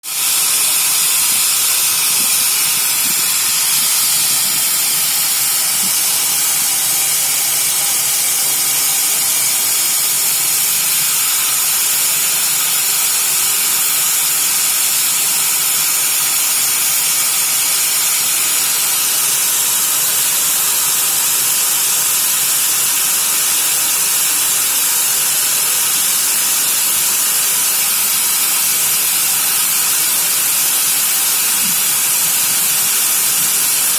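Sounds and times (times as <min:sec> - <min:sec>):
train brakes hissing: 0:00.0 - 0:33.9.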